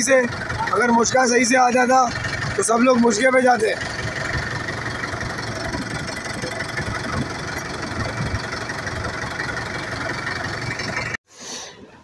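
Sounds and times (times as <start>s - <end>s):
boat engine running: 0.0s - 11.2s.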